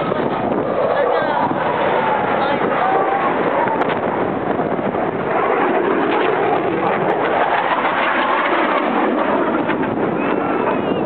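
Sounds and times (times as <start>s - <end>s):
jets passing overhead: 0.0s - 11.0s.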